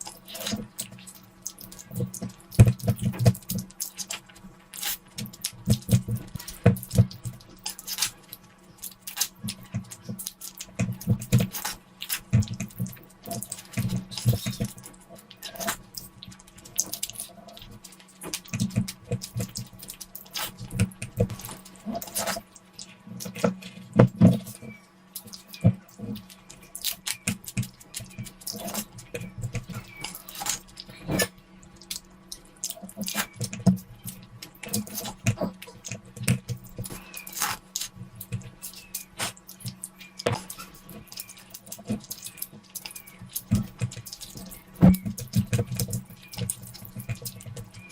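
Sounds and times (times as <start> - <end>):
wet chewing and slurping: 0.0 - 47.9.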